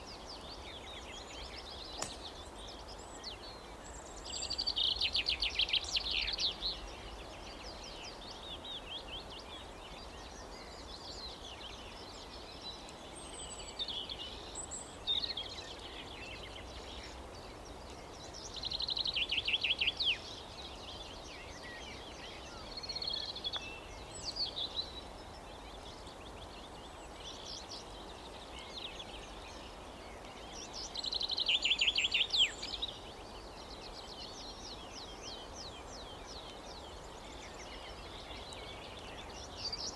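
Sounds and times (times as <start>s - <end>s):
faint background noise: 0.0s - 39.9s
songbirds chirping and whistling: 0.0s - 39.9s.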